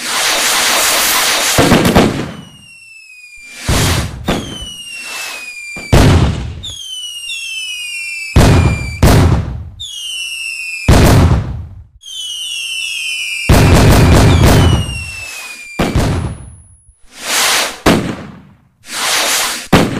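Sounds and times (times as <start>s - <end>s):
fireworks banging: 0.0s - 10.2s, 10.8s - 19.9s
falling whistle of fireworks: 0.0s - 11.2s, 12.0s - 18.0s, 18.8s - 19.9s.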